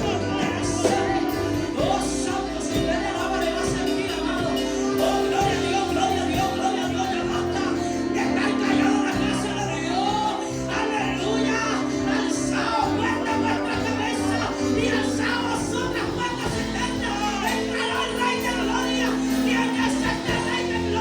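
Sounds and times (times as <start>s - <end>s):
sustained keyboard chords: 0.0s - 21.0s
worship singing: 0.0s - 21.0s.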